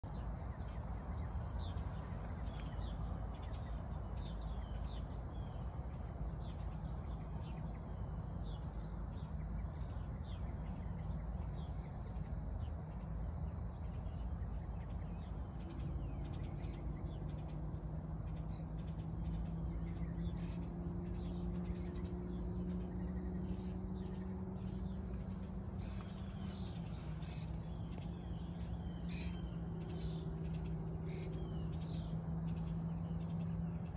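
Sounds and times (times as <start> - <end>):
insects trilling: 0.0 - 33.9
low steady hum: 0.0 - 33.9.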